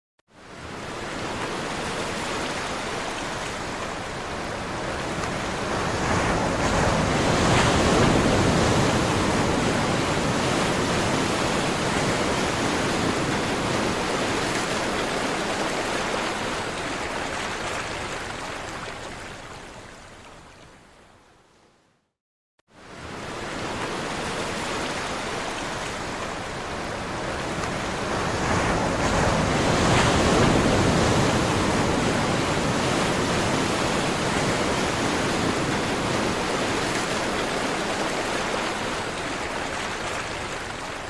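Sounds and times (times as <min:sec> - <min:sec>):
waves washing on shore: 0:00.4 - 0:20.4, 0:22.7 - 0:41.0.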